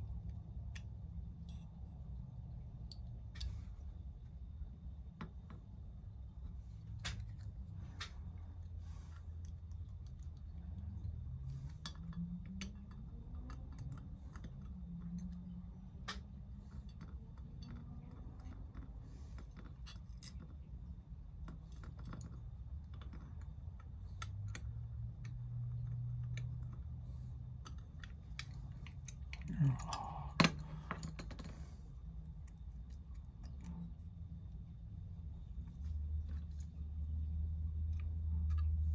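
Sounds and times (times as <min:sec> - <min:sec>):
low background hum: 0:00.0 - 0:38.9.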